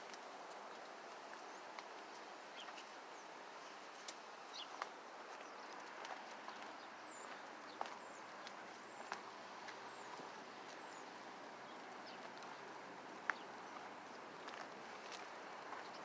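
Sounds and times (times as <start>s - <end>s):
small birds chirping: 0.5s - 16.0s.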